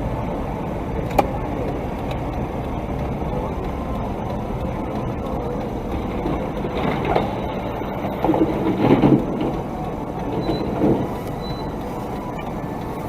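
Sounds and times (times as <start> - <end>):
low rumble of moving vehicle: 0.0 - 13.0.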